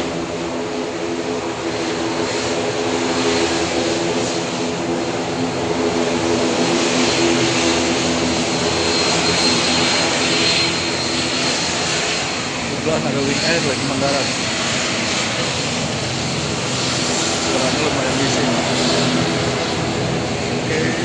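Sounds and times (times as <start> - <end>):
high engine whine: 0.0 - 21.0
turboprop engines droning: 0.0 - 21.0.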